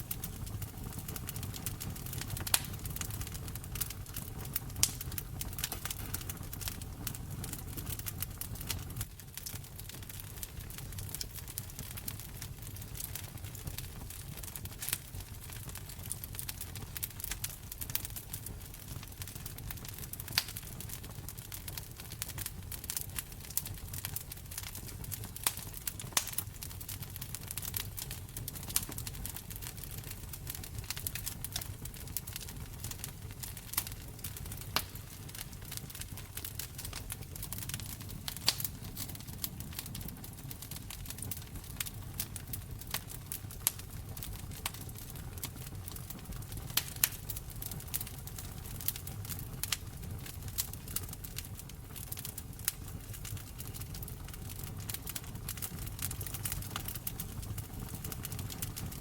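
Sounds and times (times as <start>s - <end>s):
low rumble of flames: 0.0s - 59.0s
sharp pops and snaps of fire: 0.0s - 59.0s
wood fire crackling: 0.0s - 59.0s.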